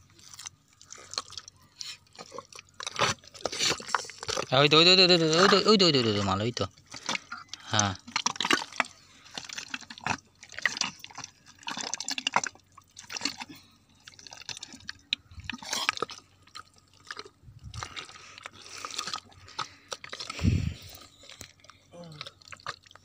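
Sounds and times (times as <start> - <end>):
wet mud squelching: 0.0 - 23.0.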